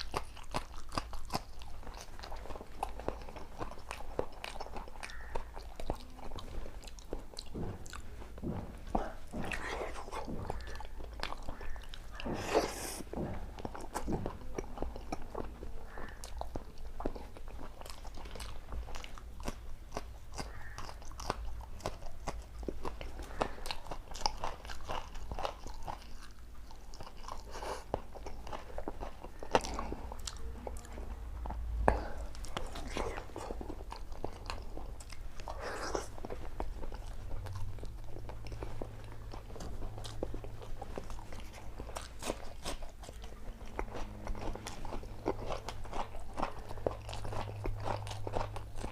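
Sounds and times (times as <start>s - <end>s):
low steady hum: 0.0s - 48.9s
person chewing and crunching: 0.0s - 48.9s.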